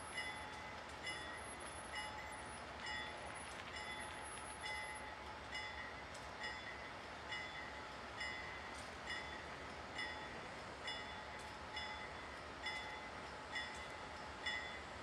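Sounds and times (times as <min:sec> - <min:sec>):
railroad bell ringing: 0:00.0 - 0:15.0.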